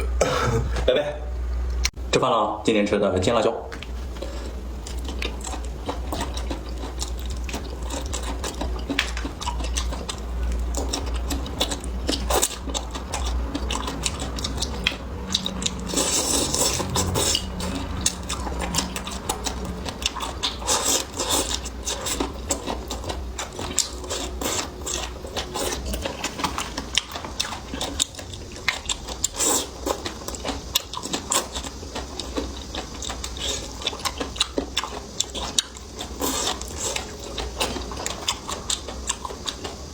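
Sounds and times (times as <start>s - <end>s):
steady low hum: 0.0s - 39.9s
chewing and crunching fried food: 3.7s - 39.9s.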